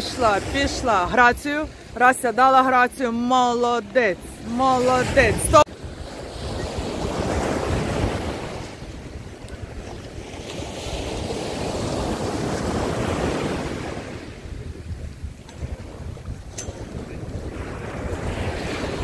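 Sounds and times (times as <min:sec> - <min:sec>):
surf breaking on beach: 0:00.0 - 0:19.0
wind rumbling on microphone: 0:00.0 - 0:19.0.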